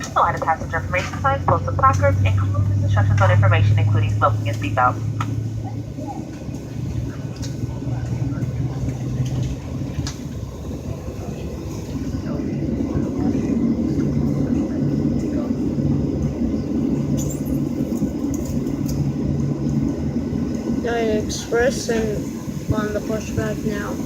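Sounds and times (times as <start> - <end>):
aircraft cabin air drone: 0.0 - 24.0.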